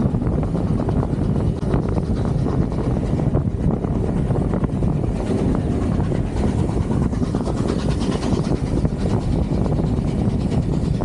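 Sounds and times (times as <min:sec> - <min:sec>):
steam train running: 0:00.0 - 0:11.0
wind on microphone: 0:00.0 - 0:11.0.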